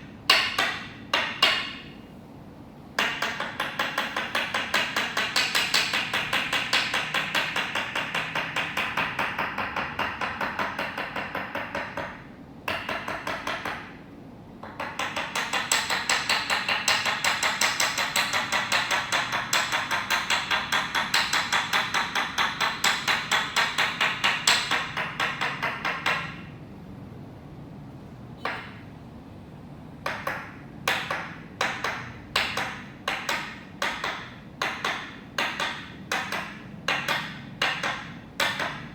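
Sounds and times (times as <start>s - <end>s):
wooden mallet tapping wooden peg: 0.3s - 2.0s, 3.0s - 14.0s, 14.6s - 26.5s, 28.4s - 28.9s, 30.0s - 38.9s.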